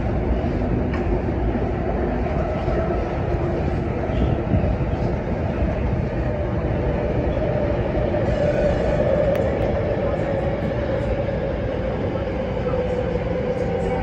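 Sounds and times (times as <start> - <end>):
electric train whine: 0.0 - 14.0
train wheels rumbling on track: 0.0 - 14.0.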